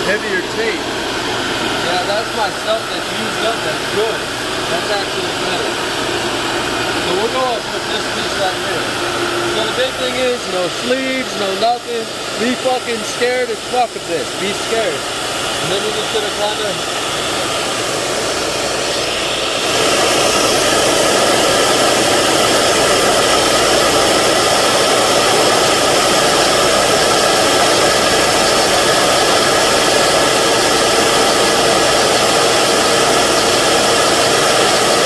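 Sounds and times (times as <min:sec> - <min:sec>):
vacuum whooshing hiss: 0:00.0 - 0:35.0.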